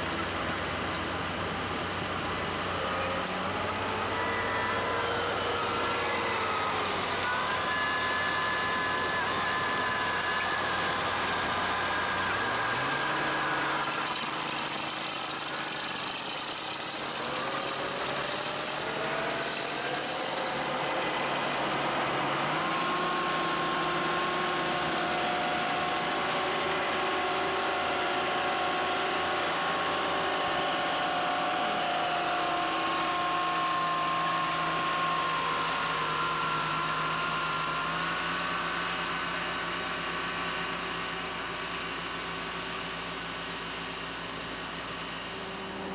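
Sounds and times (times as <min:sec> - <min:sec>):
diesel engines running: 0:00.0 - 0:45.9.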